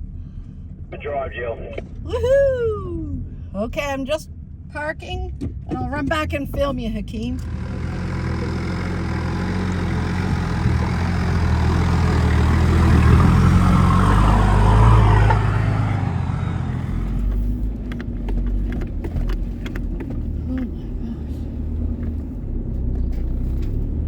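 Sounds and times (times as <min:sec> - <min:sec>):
vehicle engine driving: 0:00.0 - 0:24.0.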